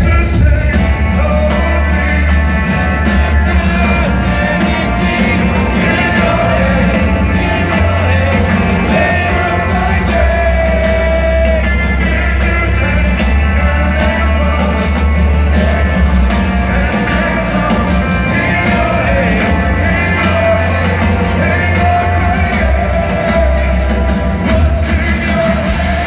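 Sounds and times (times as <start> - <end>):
person singing: 0.0 - 26.0
rock band playing live: 0.0 - 26.0.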